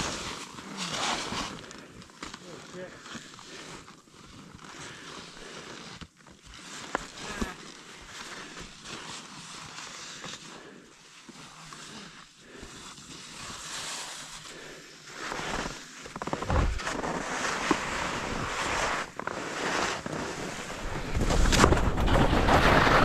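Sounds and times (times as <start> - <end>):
skis scraping over snow: 0.0 - 23.0.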